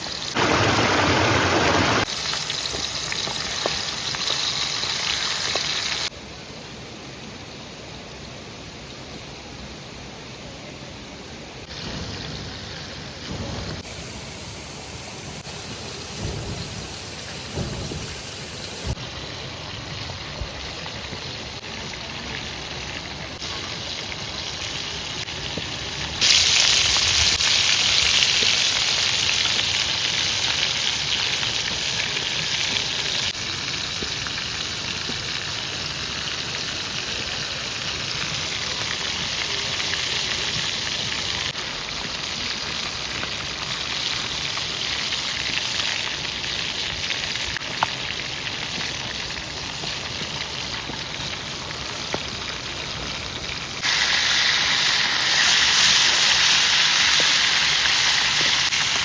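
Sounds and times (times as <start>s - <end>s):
food sizzling in oil: 0.0s - 6.1s, 15.2s - 59.0s.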